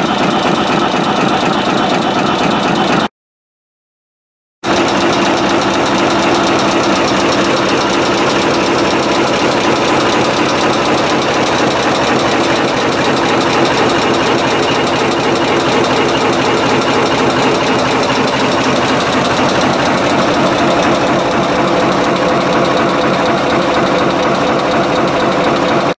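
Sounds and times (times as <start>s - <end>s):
heading machine knocking: 4.7s - 25.9s.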